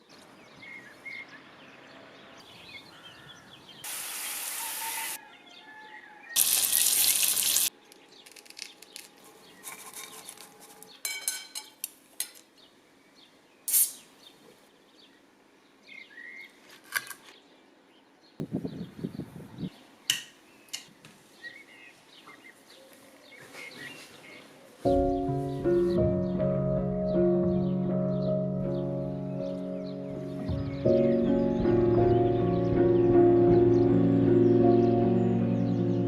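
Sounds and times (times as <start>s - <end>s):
birds chirping: 0.0s - 6.9s, 12.4s - 36.0s.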